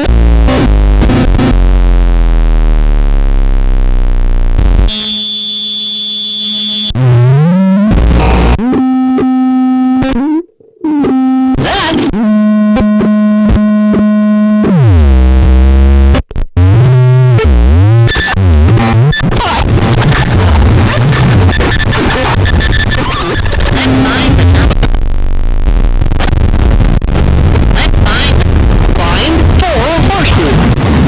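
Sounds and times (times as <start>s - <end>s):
harsh electronic noise music: 0.0s - 5.3s, 5.9s - 31.0s.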